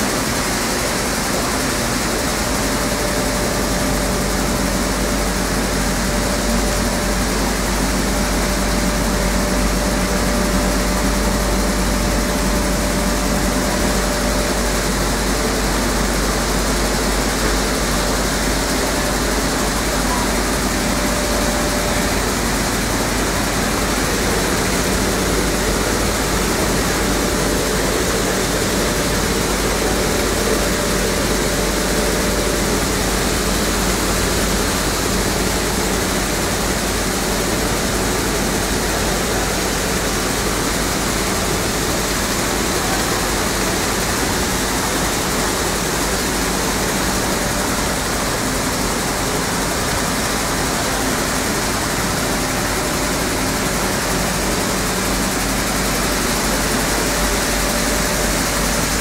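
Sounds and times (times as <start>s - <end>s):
flour mill running: 0.0s - 59.0s.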